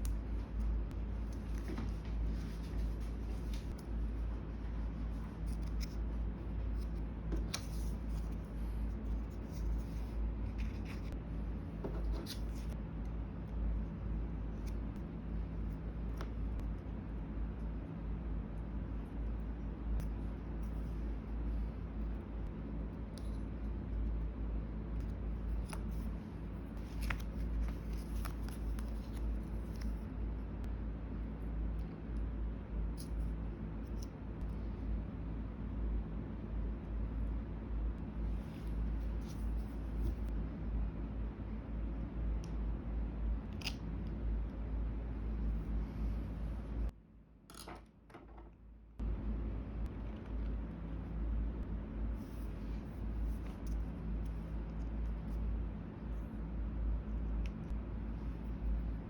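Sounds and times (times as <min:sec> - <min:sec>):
steady low rumble: 0:00.0 - 0:47.1, 0:48.7 - 0:59.0
low room hum: 0:00.0 - 0:59.0.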